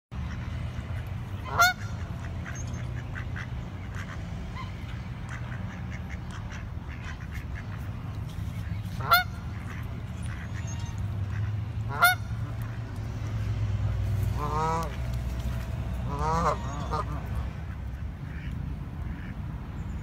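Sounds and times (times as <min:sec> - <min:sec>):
geese honking: 0:00.2 - 0:19.4.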